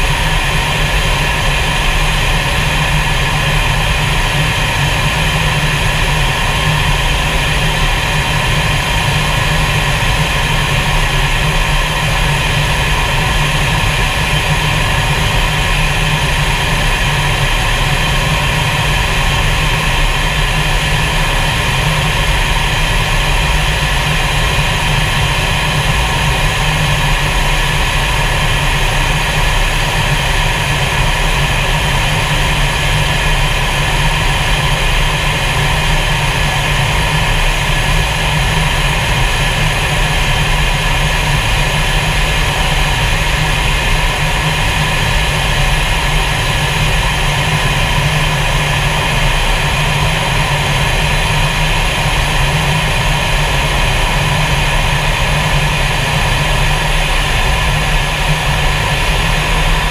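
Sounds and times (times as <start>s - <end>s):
jet engine drone in cockpit: 0.0s - 59.9s.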